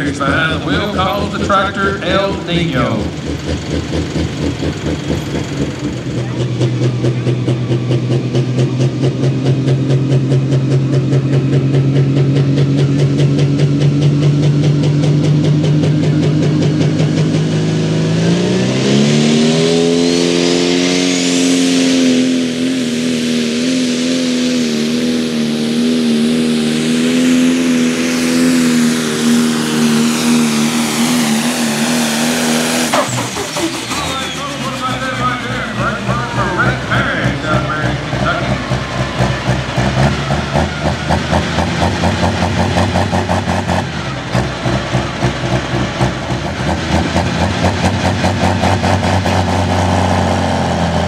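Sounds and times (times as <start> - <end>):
diesel tractor engine revving: 0.0 - 51.0.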